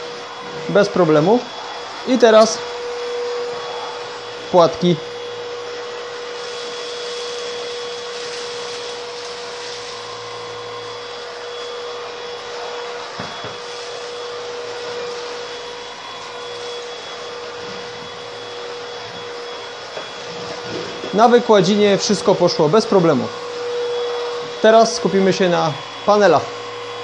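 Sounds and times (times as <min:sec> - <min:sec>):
stick vacuum running on carpet: 0:00.0 - 0:27.0.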